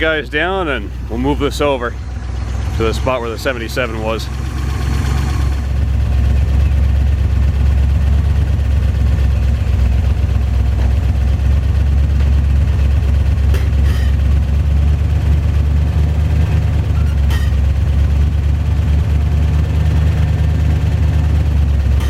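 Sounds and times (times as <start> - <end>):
pickup engine rumbling: 0.0 - 22.0.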